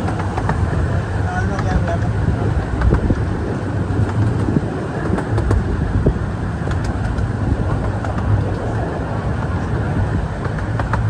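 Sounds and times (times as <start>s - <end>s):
light clicks of train wheels: 0.0s - 11.0s
train rumbling along track: 0.0s - 11.0s.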